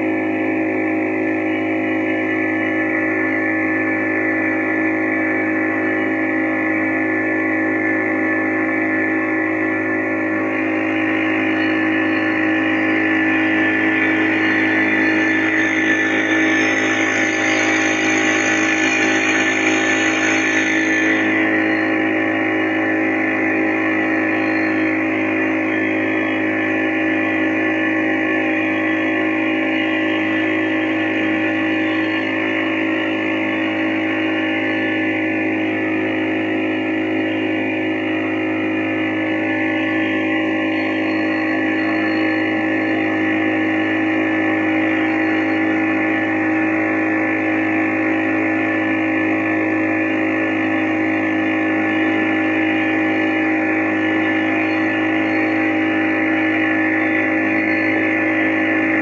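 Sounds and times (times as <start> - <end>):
engine droning: 0.0 - 59.0.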